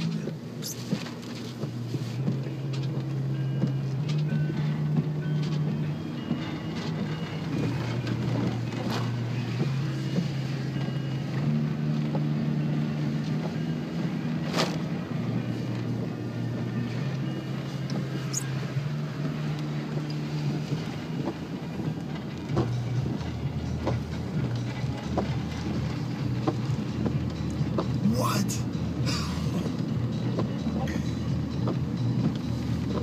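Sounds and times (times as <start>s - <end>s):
car engine hum: 0.0s - 33.0s
rain and road noise: 0.0s - 33.0s.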